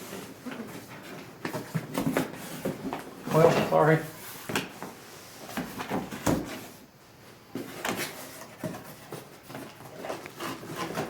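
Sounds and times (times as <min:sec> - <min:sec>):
cardboard rustling: 0:00.0 - 0:06.9, 0:07.5 - 0:11.0.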